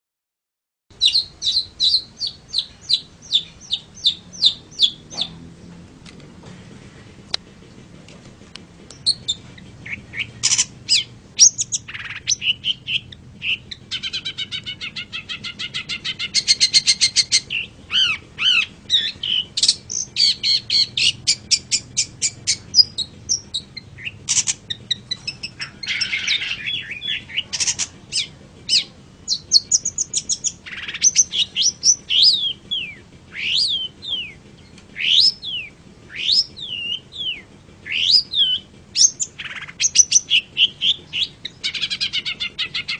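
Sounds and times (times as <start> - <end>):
shrike singing: 0.9 - 5.4, 8.8 - 42.9.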